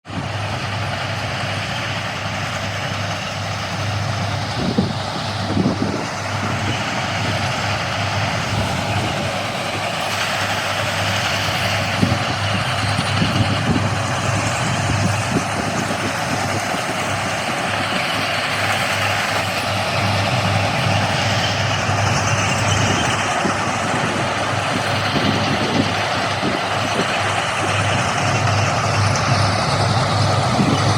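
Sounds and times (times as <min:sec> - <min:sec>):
heavy machinery engine hum: 0:00.0 - 0:30.9.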